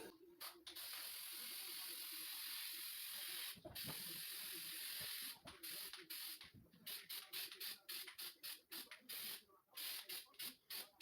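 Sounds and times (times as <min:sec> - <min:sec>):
spray can hissing: 0:00.4 - 0:11.0.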